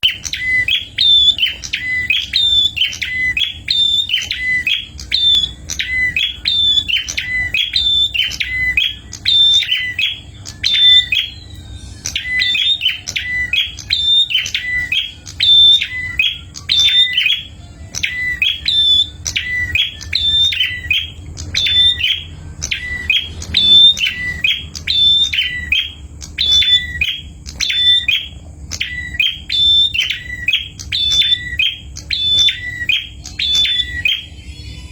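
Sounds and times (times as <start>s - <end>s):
bird singing sharp chirping phrase: 0.0s - 34.9s.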